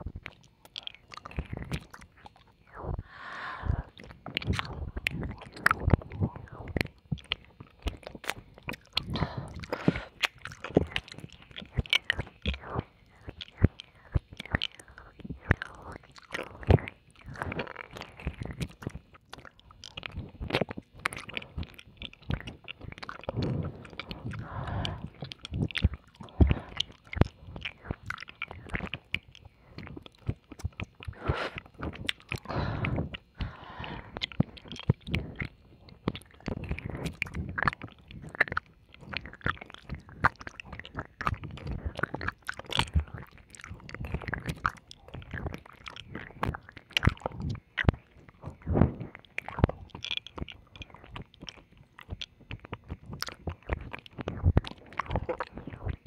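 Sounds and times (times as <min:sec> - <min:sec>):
breathy slurp: 0:00.0 - 0:19.0, 0:20.0 - 0:51.3
mouth clicks and squelches: 0:00.0 - 0:56.0
wet licking and kissing: 0:03.8 - 0:56.0.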